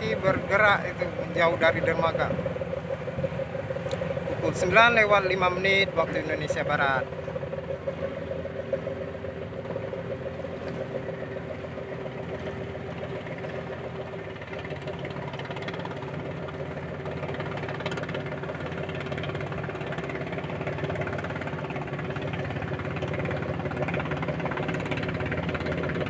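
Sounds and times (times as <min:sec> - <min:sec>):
ship diesel engine drone: 0:00.0 - 0:26.0.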